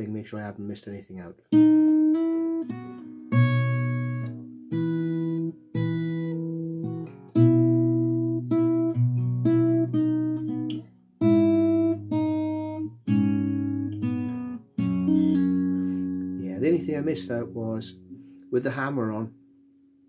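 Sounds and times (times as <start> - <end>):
fingerstyle acoustic guitar: 1.5 - 18.5.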